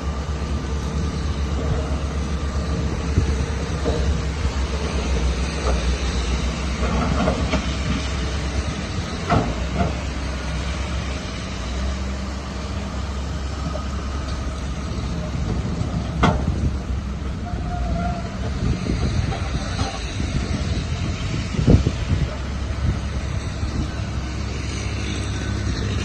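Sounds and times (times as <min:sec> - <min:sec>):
diesel machinery low rumble: 0:00.0 - 0:26.0.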